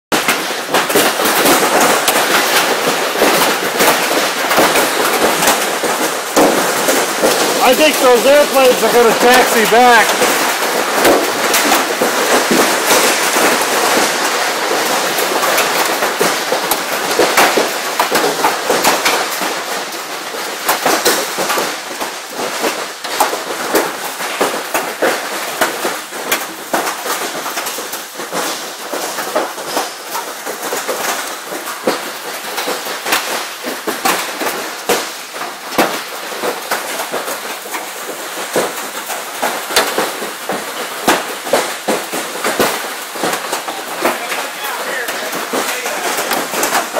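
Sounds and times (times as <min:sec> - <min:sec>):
hailstones pelting: 0:00.1 - 0:46.9
rain hiss: 0:00.2 - 0:46.9.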